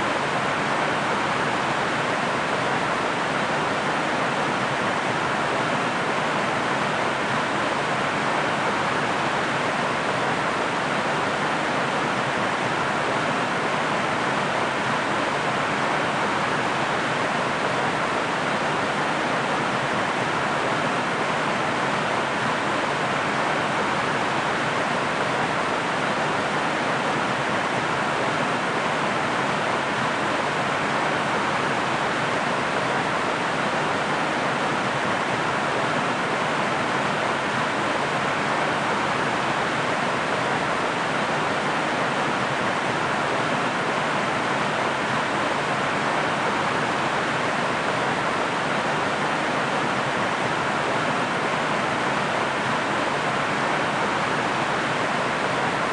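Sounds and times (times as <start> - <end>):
waterfall rushing water: 0.0 - 55.9.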